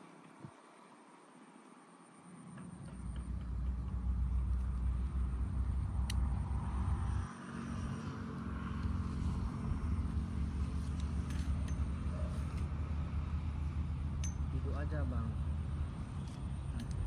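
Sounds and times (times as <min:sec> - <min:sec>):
airplane rumble overhead: 0:00.0 - 0:17.0.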